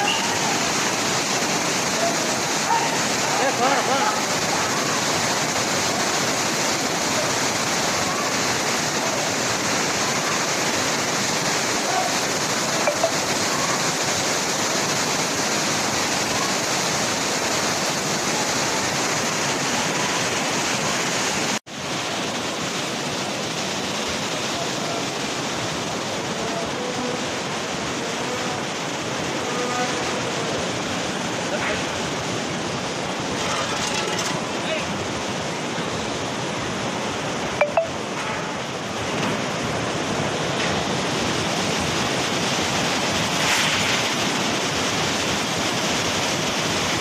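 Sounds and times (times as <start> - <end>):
river torrent rushing: 0.0 - 47.0.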